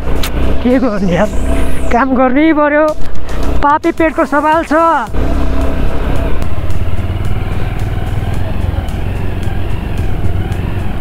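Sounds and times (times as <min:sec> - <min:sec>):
dirt road noise: 0:00.0 - 0:11.0
motorcycle engine rumbling: 0:00.0 - 0:11.0.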